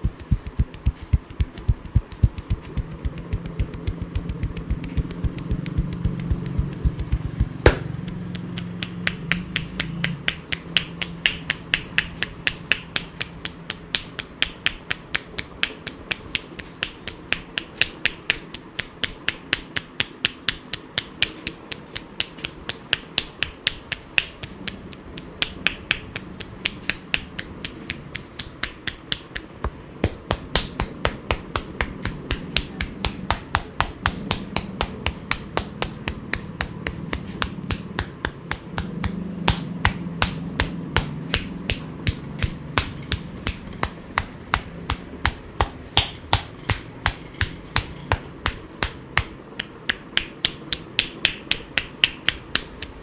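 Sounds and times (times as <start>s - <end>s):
hands slapping skin: 0.0s - 53.0s.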